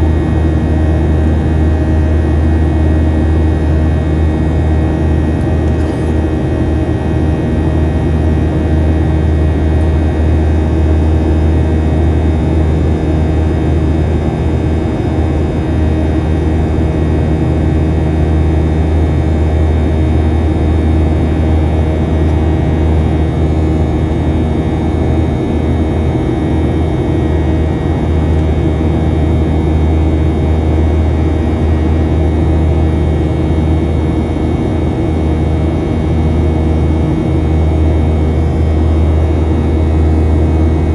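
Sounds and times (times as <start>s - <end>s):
jet engine drone in cabin: 0.0s - 40.9s.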